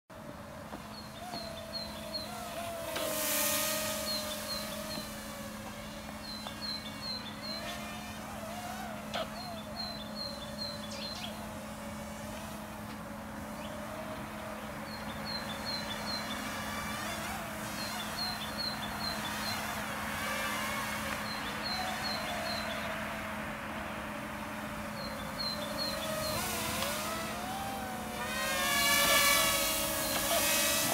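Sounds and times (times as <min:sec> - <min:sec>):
drone propellers whining: 0:00.4 - 0:30.9.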